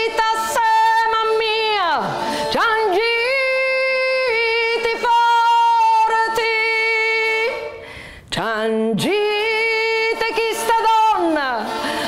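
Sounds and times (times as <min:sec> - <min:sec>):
woman singing folk ballad: 0:00.0 - 0:12.0.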